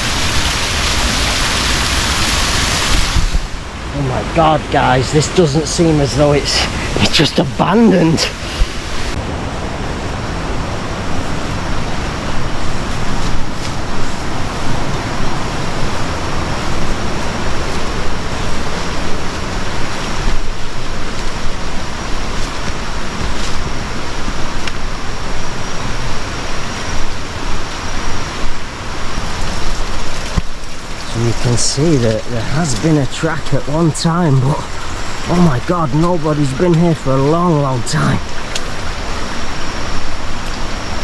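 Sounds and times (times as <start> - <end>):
running water rushing: 0.0 - 41.0
wind buffeting microphone: 0.0 - 41.0.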